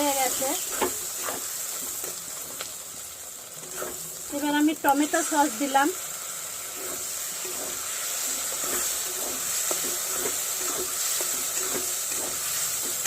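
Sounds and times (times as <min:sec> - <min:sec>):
masala sizzling in a pan: 0:00.0 - 0:13.0
spatula stirring and scraping: 0:00.0 - 0:13.0.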